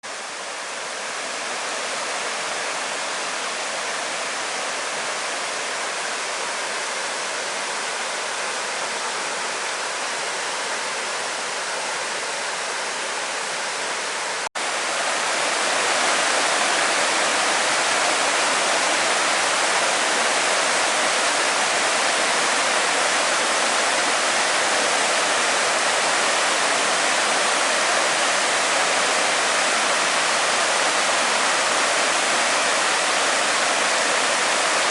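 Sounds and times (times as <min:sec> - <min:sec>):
flowing water: 0:00.0 - 0:34.9.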